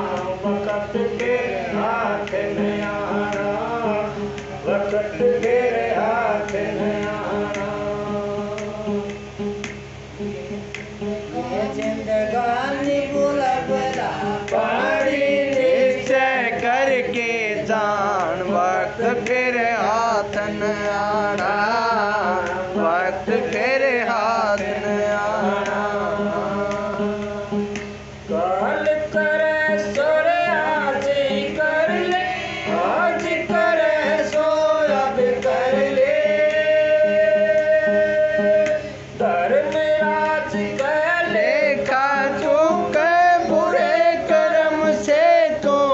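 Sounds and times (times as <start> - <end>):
men singing a hymn: 0.0 - 9.5, 11.2 - 45.9.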